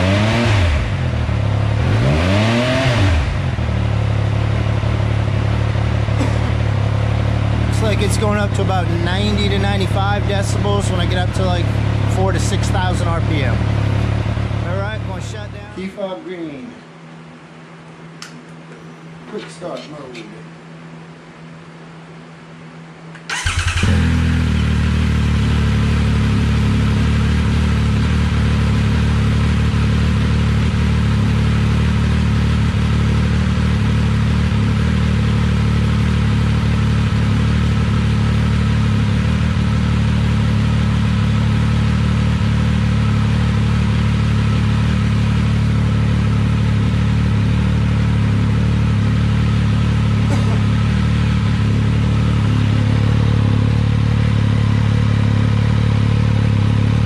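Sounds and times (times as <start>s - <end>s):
motorcycle engine starting and idling: 2.8s - 16.0s, 23.1s - 57.0s.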